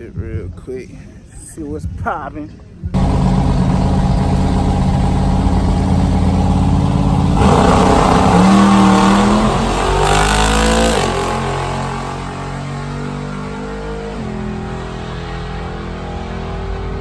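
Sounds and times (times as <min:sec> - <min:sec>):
car engine revving: 0:03.0 - 0:16.9.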